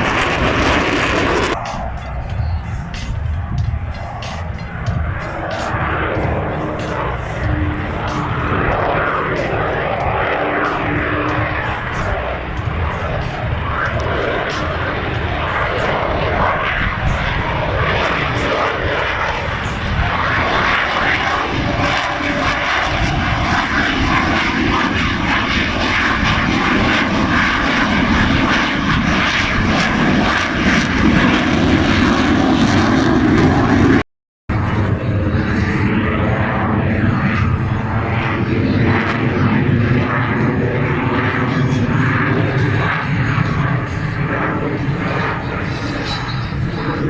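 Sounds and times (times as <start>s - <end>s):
plane flying over: 0.0s - 47.0s.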